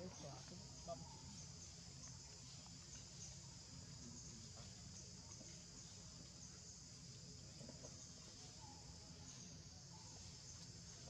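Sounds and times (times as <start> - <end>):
insect chorus humming: 0.0 - 11.0.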